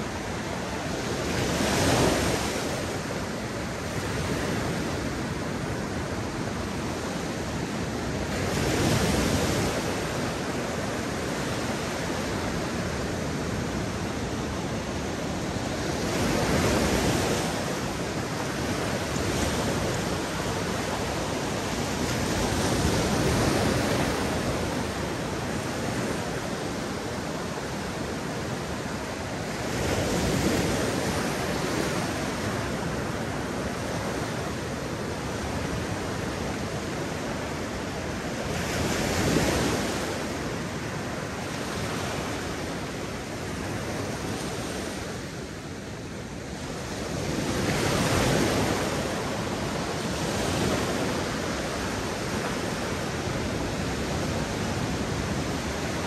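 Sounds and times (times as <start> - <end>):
waves breaking: 0.0 - 56.0.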